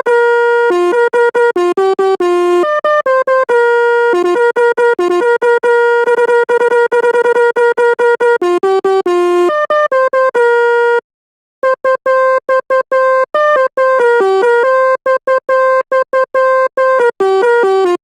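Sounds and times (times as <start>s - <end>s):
bus air horn melody: 0.0s - 11.0s, 11.6s - 18.0s.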